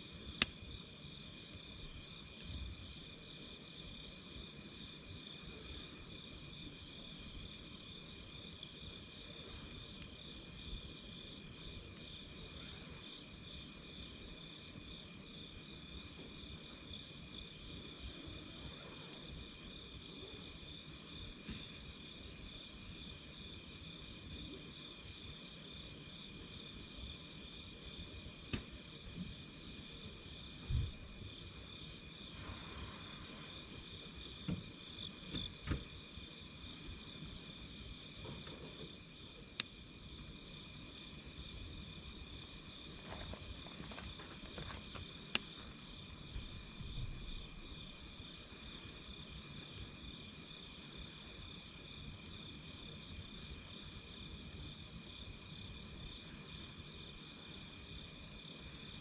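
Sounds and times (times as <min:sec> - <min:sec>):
campfire popping and crackling: 0:00.0 - 0:59.0
insects chirring: 0:00.0 - 0:59.0.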